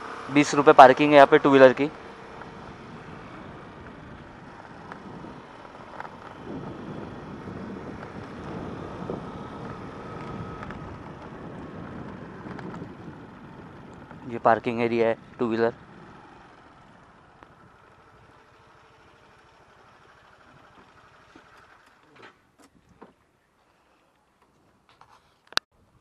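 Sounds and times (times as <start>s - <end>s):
motor vehicle running: 0.0s - 22.6s.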